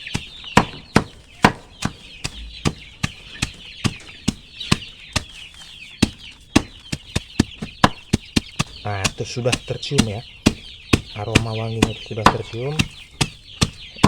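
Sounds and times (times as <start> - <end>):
blade chopping stalks: 0.0 - 14.0
chickens clucking: 0.0 - 14.0.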